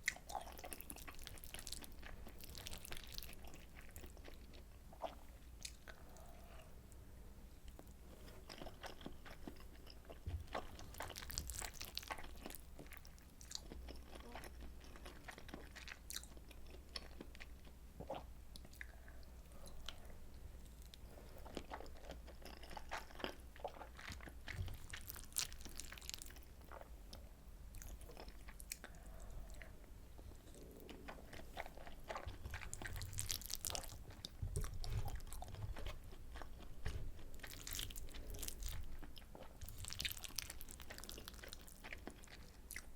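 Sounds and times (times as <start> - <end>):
person chewing: 0.0 - 6.7, 7.7 - 42.9.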